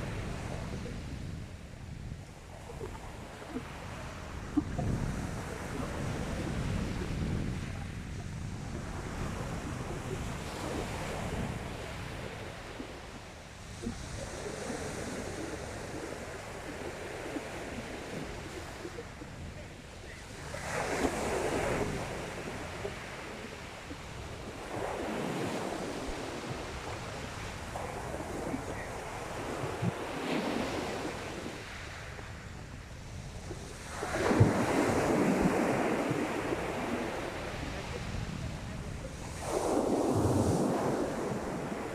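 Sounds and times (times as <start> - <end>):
sea waves breaking on beach: 0.0 - 41.9
wind buffeting microphone: 0.0 - 41.9.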